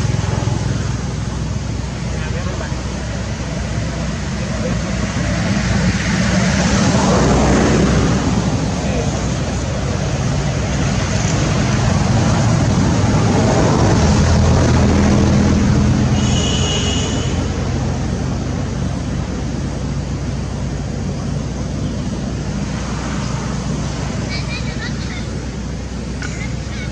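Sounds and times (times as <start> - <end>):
vehicle engines passing: 0.0 - 26.9.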